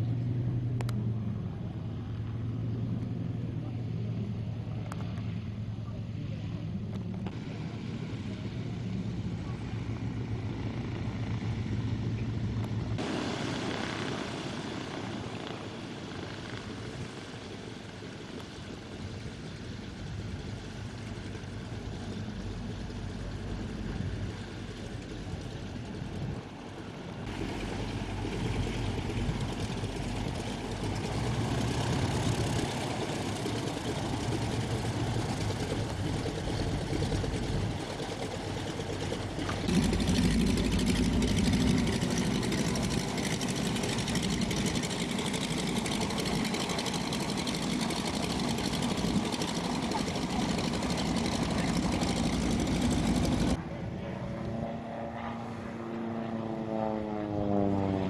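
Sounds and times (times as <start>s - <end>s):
propeller aircraft engines taxiing: 0.0s - 58.0s.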